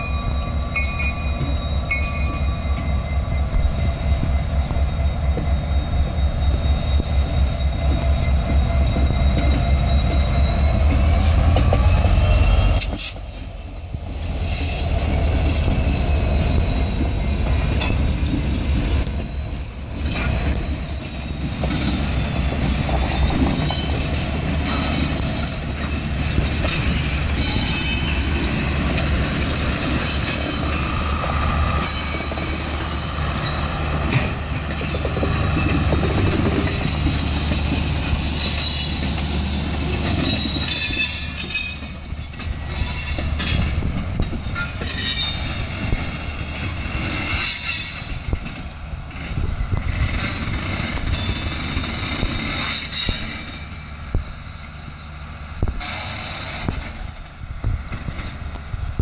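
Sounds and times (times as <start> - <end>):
wheels squealing: 0.0 - 13.4, 14.2 - 53.9
diesel locomotive engine pulsing: 0.0 - 59.0
train wheels rolling on rails: 0.0 - 59.0.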